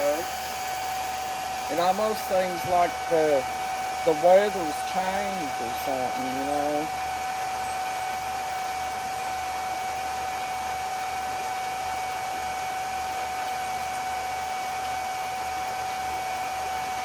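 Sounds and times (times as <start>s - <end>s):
electric pump whining: 0.0s - 17.0s.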